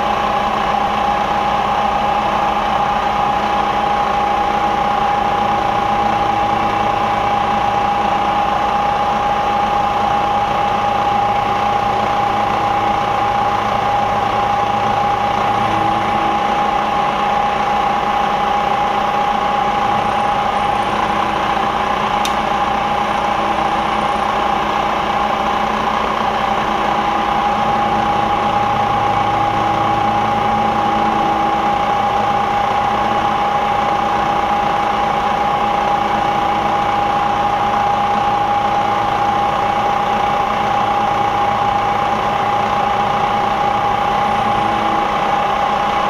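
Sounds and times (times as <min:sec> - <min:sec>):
low machine hum: 0:00.0 - 0:46.0
milling machine cutting metal: 0:02.9 - 0:46.0.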